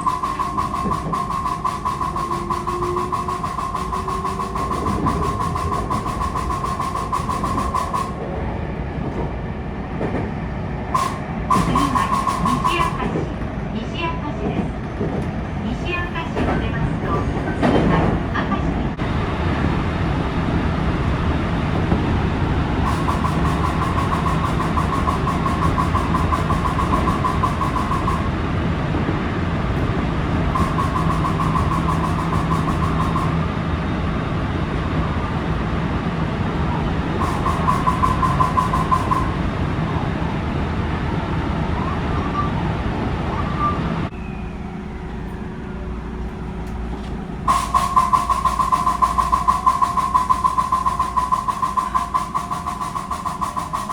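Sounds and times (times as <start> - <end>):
rapid clicking rattle under train: 0.0 - 53.9
train running noise: 0.0 - 53.9.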